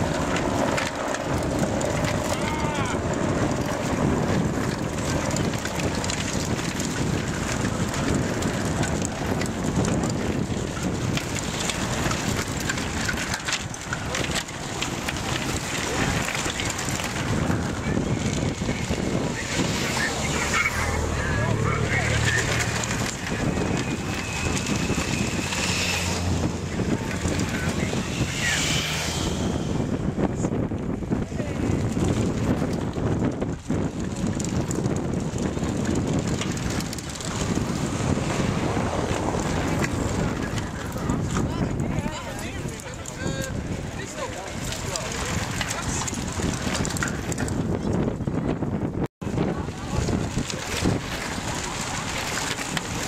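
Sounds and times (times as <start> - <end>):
wind rumbling on microphone: 0.0 - 53.0.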